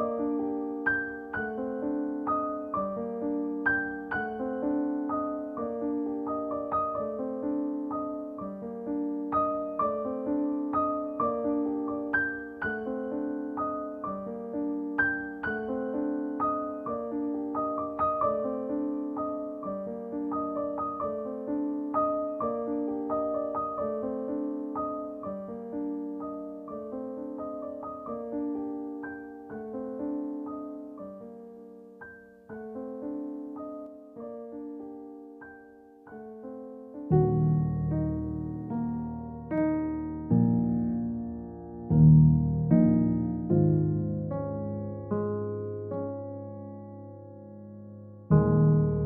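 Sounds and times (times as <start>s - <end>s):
gentle piano tune: 0.0s - 49.0s.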